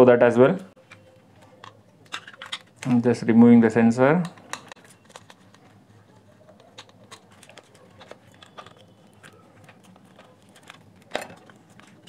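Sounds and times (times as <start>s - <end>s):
small plastic parts clicking: 0.9s - 3.0s, 4.2s - 12.0s.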